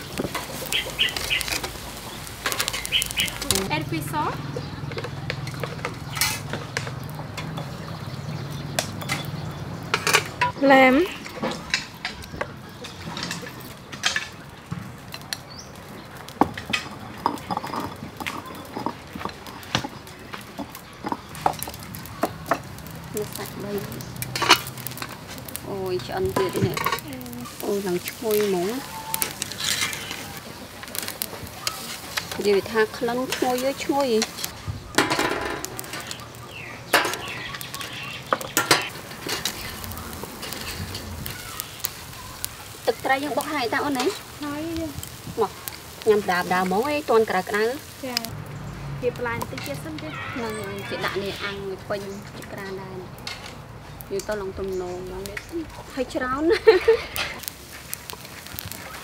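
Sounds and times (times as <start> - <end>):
faint sizzle of grilling: 0.0 - 59.0.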